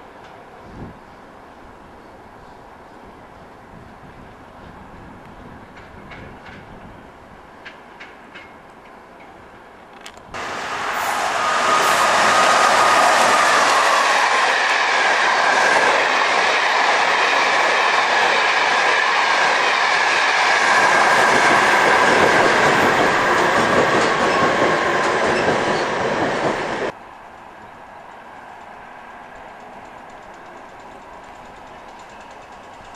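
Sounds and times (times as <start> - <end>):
train wheels rushing on rail: 2.4 - 32.9.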